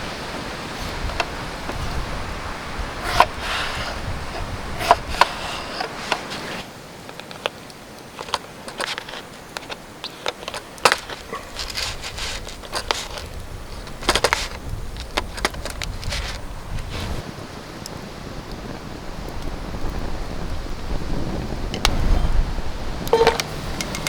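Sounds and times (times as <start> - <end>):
wind rumble on microphone: 0.0 - 6.7, 11.2 - 24.0
campfire crackling and popping: 0.0 - 24.0.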